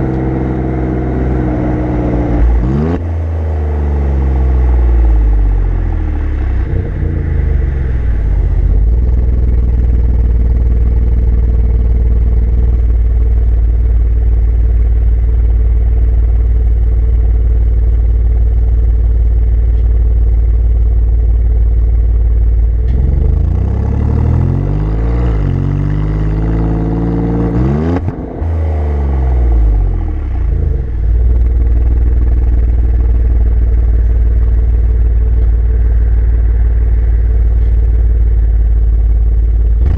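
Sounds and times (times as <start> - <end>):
car exhaust engine revving: 0.0 - 39.9.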